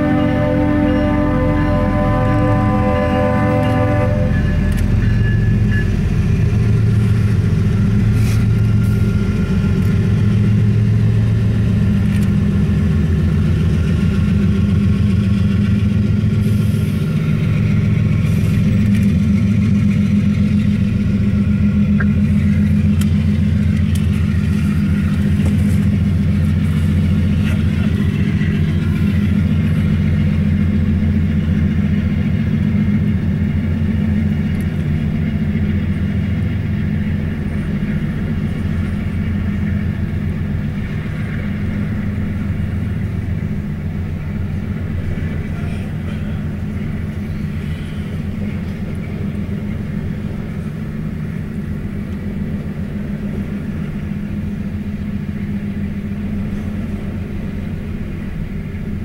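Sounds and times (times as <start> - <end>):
diesel locomotive engines droning: 0.0 - 59.0
train cars rolling by: 0.0 - 59.0.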